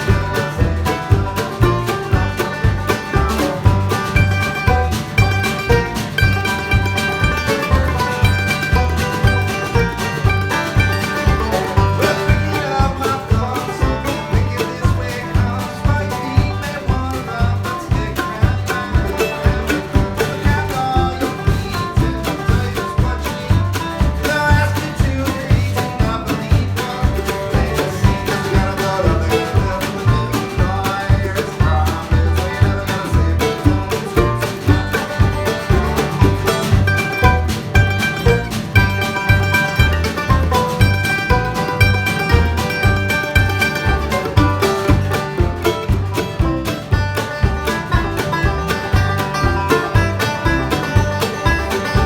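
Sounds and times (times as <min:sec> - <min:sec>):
band playing instrumental: 0:00.0 - 0:52.0.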